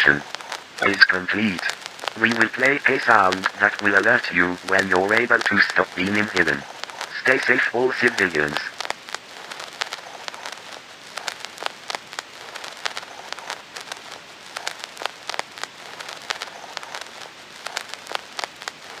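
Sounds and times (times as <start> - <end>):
sharp crackles and pops: 0.0 - 19.0
steady hiss: 0.0 - 19.0.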